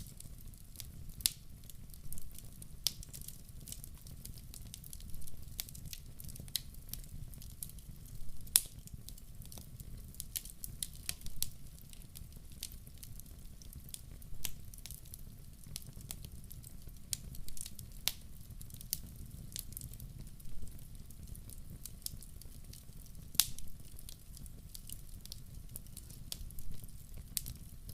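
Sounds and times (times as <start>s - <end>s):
log fire crackling: 0.0s - 27.9s.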